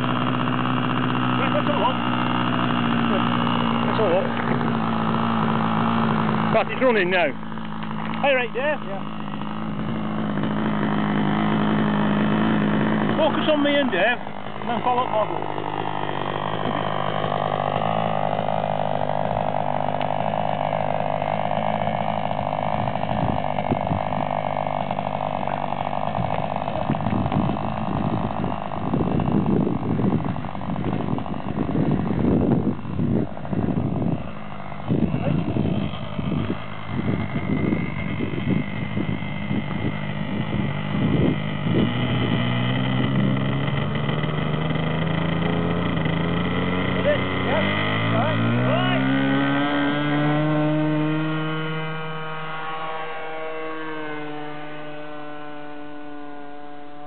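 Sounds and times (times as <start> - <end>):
model aircraft engine drone: 0.0 - 57.0.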